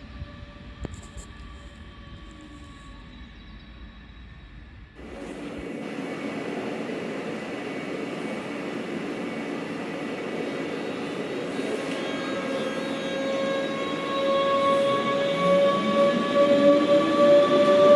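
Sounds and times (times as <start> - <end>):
electric train rushing: 0.0 - 17.9
train high whining tones: 0.0 - 17.9.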